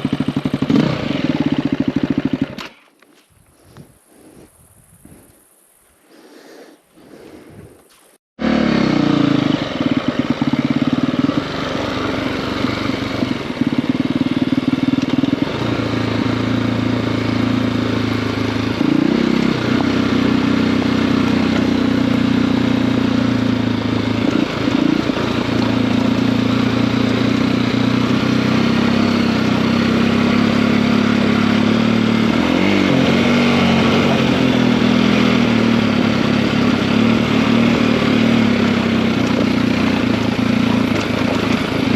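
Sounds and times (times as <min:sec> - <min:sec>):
motorcycle engine running: 0:00.0 - 0:03.2, 0:08.4 - 0:41.9.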